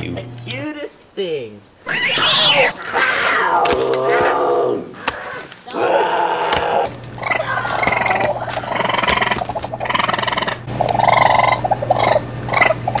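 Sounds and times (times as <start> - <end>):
steady low hum: 0.0 - 13.0
harsh animal cries: 1.8 - 13.0.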